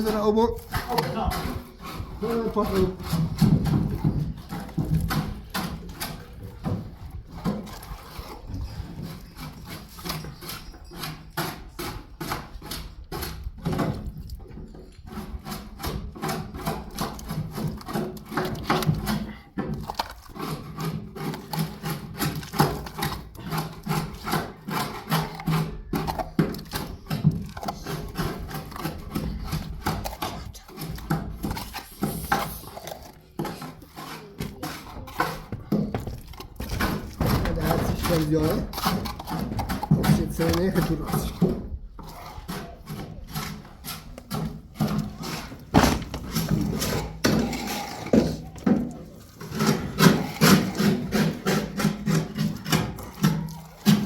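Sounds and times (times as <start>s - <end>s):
rubbing or scraping strokes: 0.0s - 13.8s, 14.8s - 54.0s.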